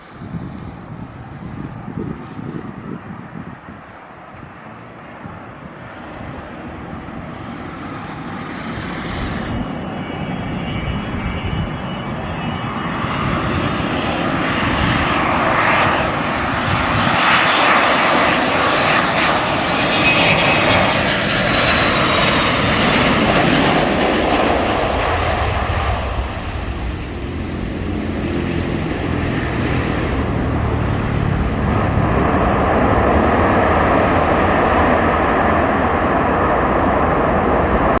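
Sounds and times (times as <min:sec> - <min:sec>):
airliner engines with high whine: 0:00.0 - 0:38.0.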